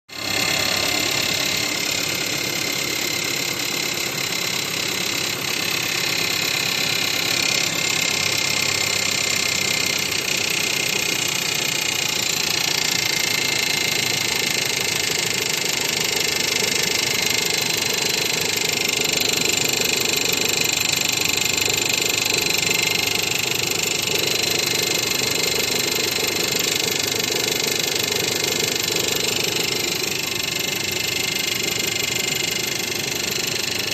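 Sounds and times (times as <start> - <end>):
car engine running with whine: 0.1 - 33.9.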